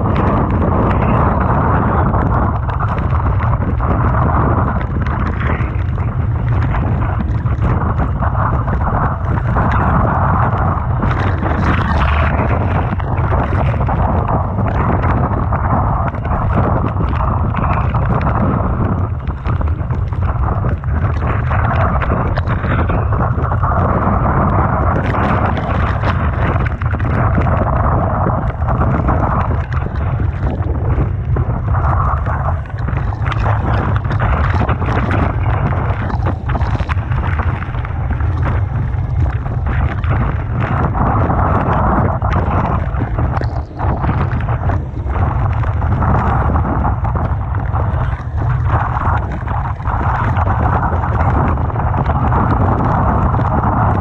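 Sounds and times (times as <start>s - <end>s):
rough sea and crashing surf: 0.0s - 54.0s
wind buffeting microphone: 0.0s - 54.0s.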